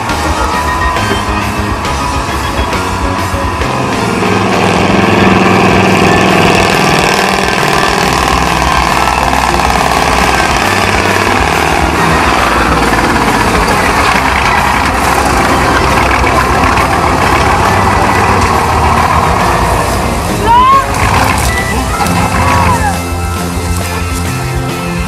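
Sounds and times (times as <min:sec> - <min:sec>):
truck diesel engine rumbling: 0:00.0 - 0:25.0.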